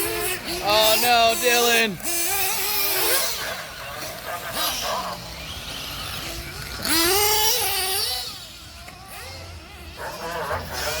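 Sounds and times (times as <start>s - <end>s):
rc car motor whine: 0.0s - 11.0s.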